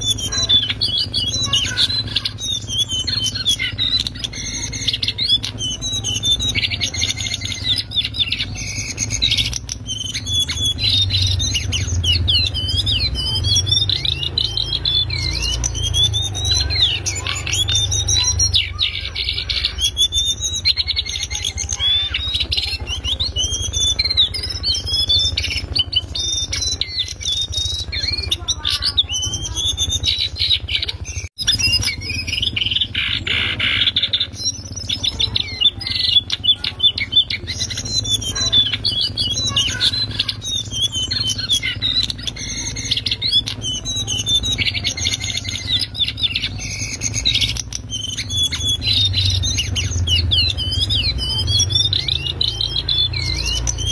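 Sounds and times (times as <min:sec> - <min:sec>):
bird singing twittering song: 0:00.0 - 0:53.9.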